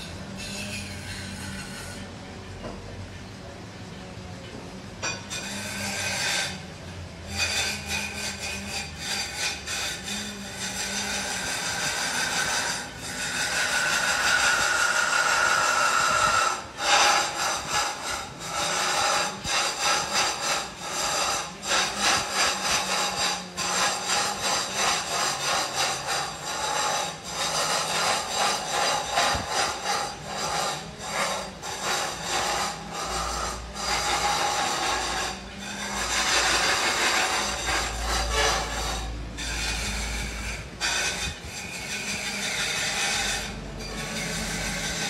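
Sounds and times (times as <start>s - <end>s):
rasp scraping wood: 0.0s - 2.1s, 5.0s - 45.0s.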